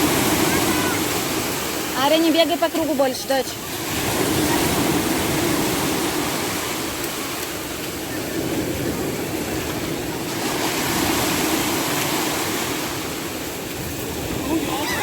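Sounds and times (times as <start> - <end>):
sea surf breaking on beach: 0.0 - 15.0.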